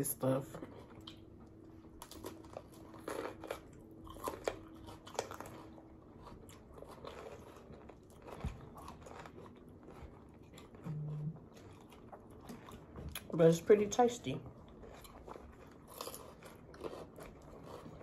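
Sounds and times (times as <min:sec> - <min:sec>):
crunchy chewing: 0:00.5 - 0:13.3, 0:14.4 - 0:18.0.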